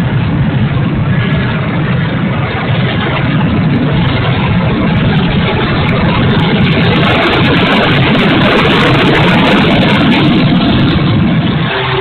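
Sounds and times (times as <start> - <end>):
electric motors and propellers droning: 0.0 - 12.0
wind rushing: 0.0 - 12.0.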